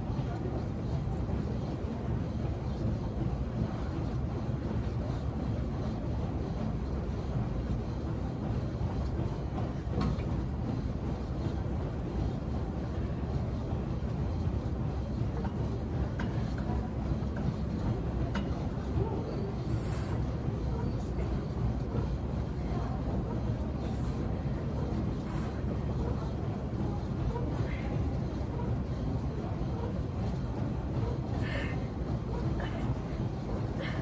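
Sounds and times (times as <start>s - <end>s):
gym room rumble: 0.0s - 34.0s.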